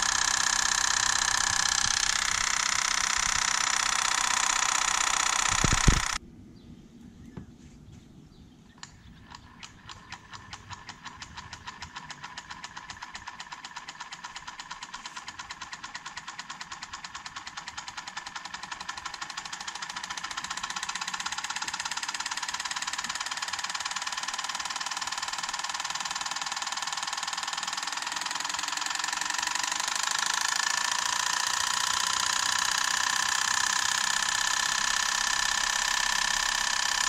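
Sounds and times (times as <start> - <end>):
electric motor clicking and pulsing: 0.0 - 6.2, 8.8 - 37.0.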